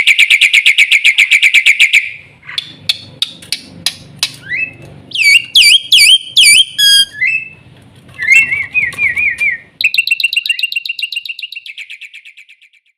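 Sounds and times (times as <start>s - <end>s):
bird whistling song: 0.0s - 3.1s, 4.2s - 7.6s, 8.2s - 12.9s.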